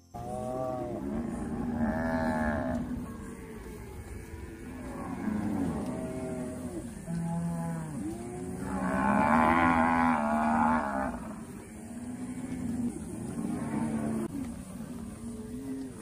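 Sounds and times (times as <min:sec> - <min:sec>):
cattle mooing: 0:00.2 - 0:16.0
loud cow bellow: 0:00.2 - 0:16.0.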